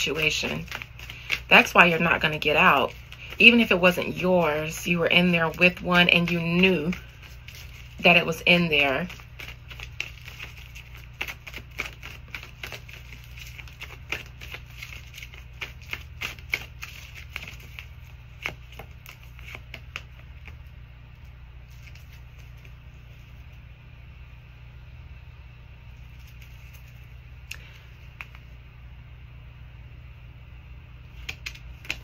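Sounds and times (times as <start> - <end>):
cards being shuffled: 0.0 - 20.7, 21.6 - 23.6, 26.0 - 28.6, 31.1 - 32.0.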